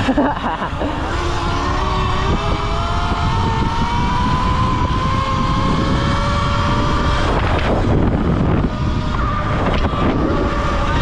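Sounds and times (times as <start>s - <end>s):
wind rumble on microphone: 0.0s - 11.0s
electric motor whining: 0.7s - 11.0s.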